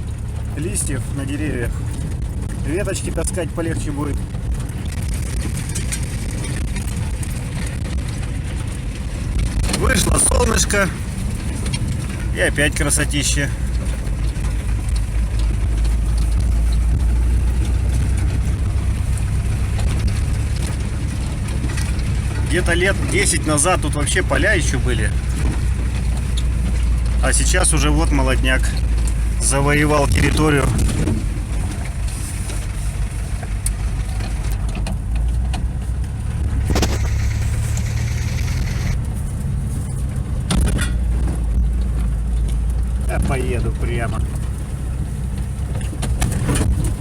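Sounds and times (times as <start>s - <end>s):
light rattles: 0.0s - 47.0s
van engine and road rumble: 0.0s - 47.0s.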